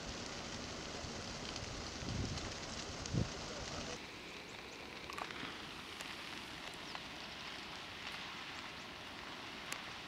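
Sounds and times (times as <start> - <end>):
fire crackling and popping: 0.0 - 10.0
fire rushing hiss: 0.0 - 10.0.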